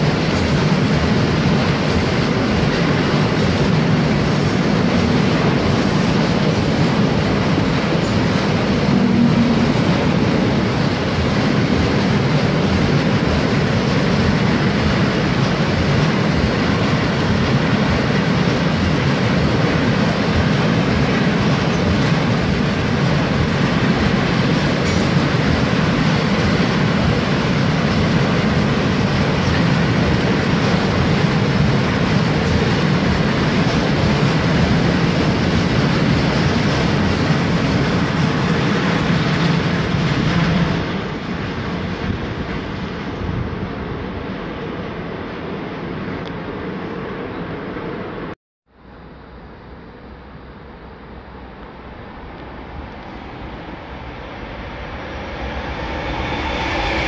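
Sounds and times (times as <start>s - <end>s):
freight train wheels on rails: 0.0s - 49.0s, 49.8s - 57.0s.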